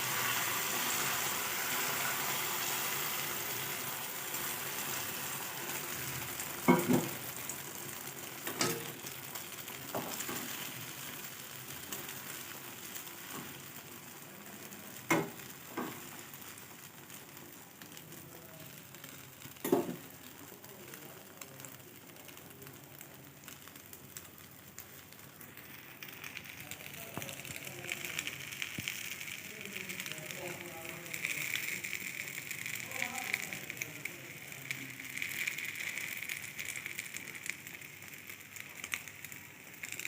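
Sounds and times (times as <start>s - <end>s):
omelette sizzling in a pan: 0.0s - 40.0s.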